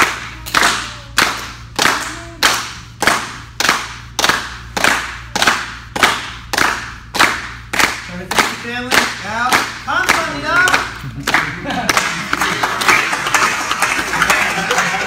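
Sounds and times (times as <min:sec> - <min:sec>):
group clapping in unison: 0:00.0 - 0:15.0.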